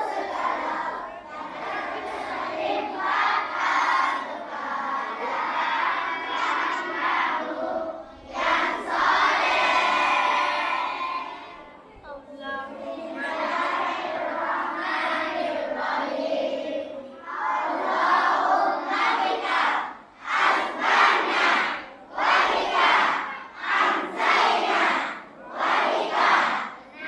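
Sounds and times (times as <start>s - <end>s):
children chanting in unison: 0.0s - 27.0s.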